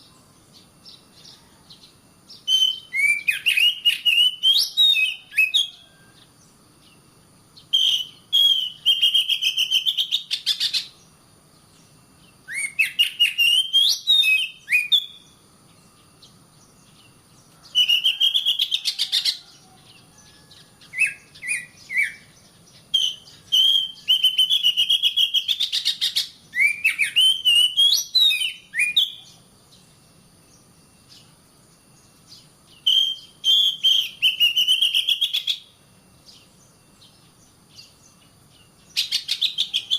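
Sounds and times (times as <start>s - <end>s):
magpie-robin singing: 0.0s - 7.0s, 7.6s - 11.1s, 11.8s - 29.4s, 32.0s - 39.9s.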